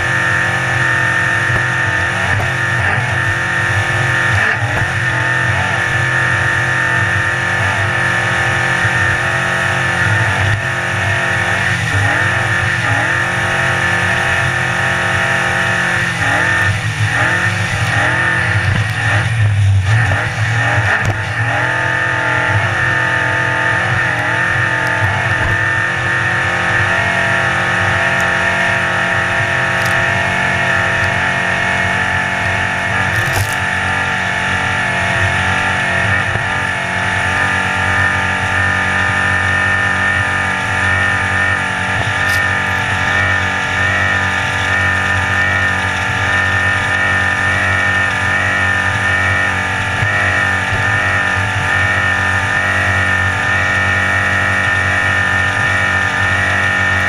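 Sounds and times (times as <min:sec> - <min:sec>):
powerboat engine running hard: 0:00.0 - 0:57.0.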